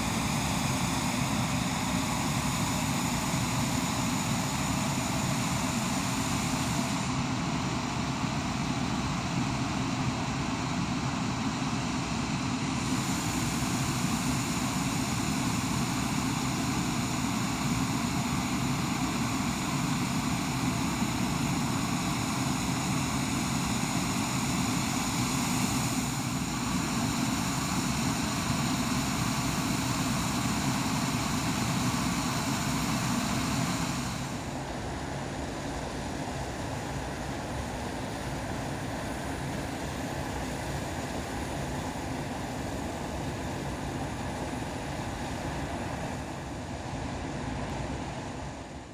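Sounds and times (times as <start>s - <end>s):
aircraft engine noise: 0.0s - 48.9s.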